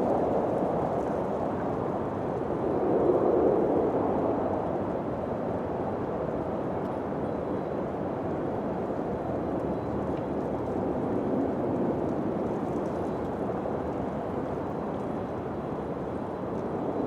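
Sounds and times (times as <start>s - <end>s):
low wind noise: 0.0s - 17.0s.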